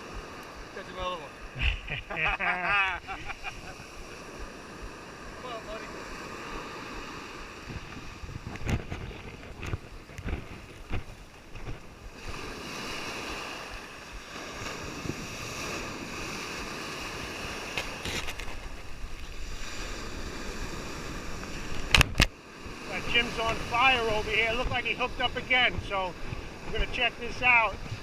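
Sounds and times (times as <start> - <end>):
ocean surf washing on beach: 0.0 - 28.0
wind buffeting microphone: 2.8 - 28.0.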